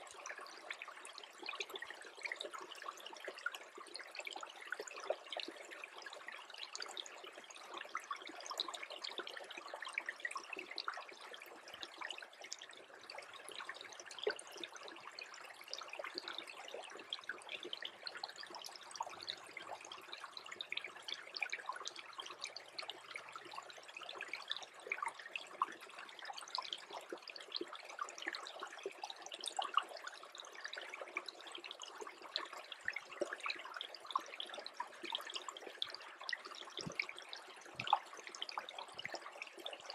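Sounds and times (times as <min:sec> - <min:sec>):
brook trickling: 0:00.0 - 0:39.9.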